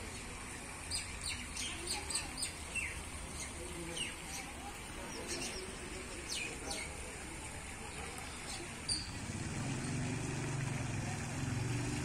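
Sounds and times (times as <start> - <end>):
small birds chirping: 0.0 - 10.6
faint background voices: 0.0 - 12.0.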